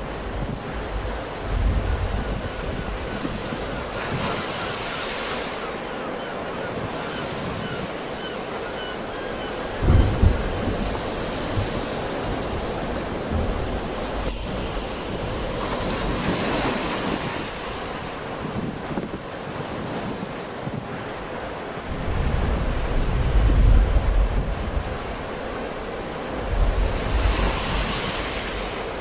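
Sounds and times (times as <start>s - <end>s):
sea waves washing on shore: 0.0s - 29.0s
wind buffeting microphone: 0.0s - 29.0s.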